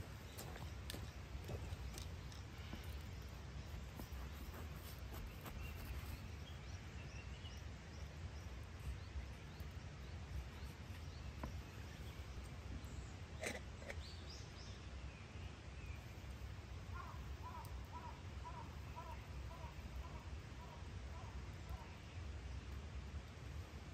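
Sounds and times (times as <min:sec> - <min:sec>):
small birds chirping: 0:00.0 - 0:22.8.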